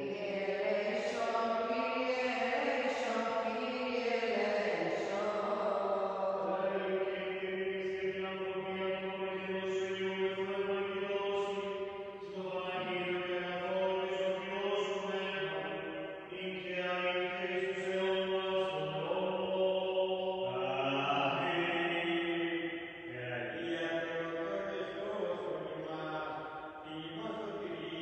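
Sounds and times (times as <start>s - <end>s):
solo voice chanting: 0.0s - 28.0s.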